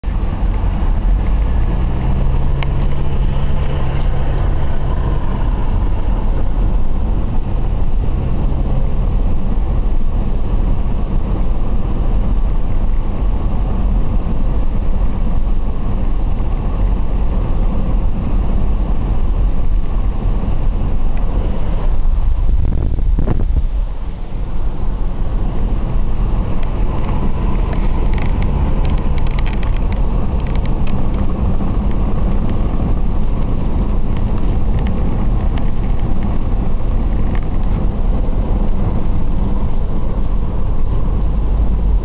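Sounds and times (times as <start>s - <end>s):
car cabin road rumble: 0.0s - 42.0s
engine hum: 0.0s - 42.0s.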